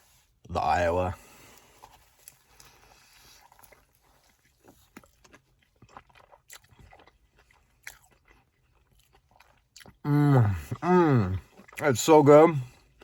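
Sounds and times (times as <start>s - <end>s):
biting and chewing pizza: 1.2s - 13.0s.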